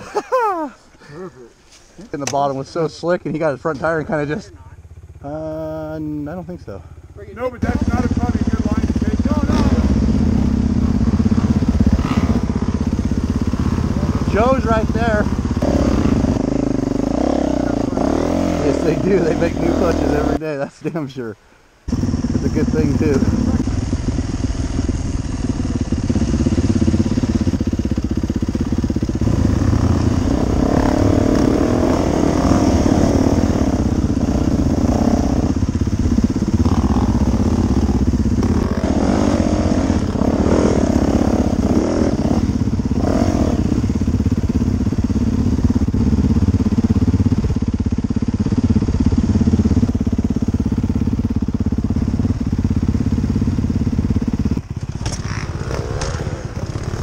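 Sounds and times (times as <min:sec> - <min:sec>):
dirt bike engine revving: 0:00.0 - 0:20.5, 0:21.9 - 0:57.0.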